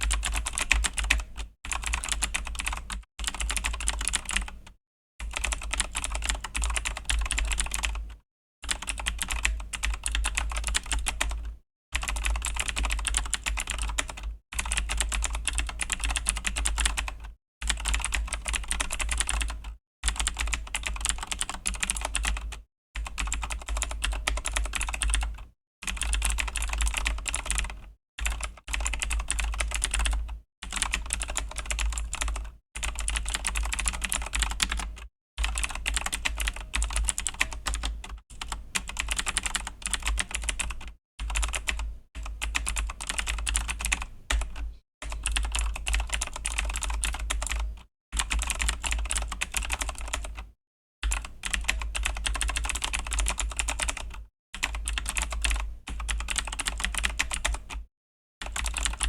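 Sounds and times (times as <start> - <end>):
mechanical keyboard typing: 0.0 - 57.8, 58.4 - 59.0.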